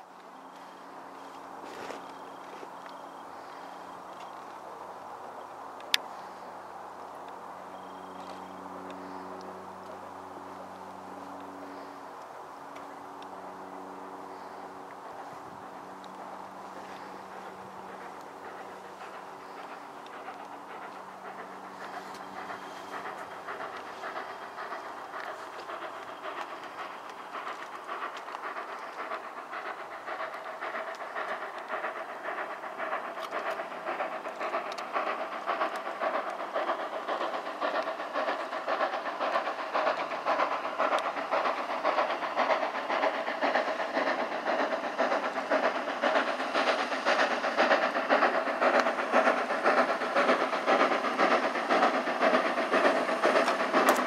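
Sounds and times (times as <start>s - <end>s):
steam hiss: 0.0s - 54.0s
steam locomotive exhaust beats: 0.0s - 54.0s
train wheel noise: 0.0s - 54.0s.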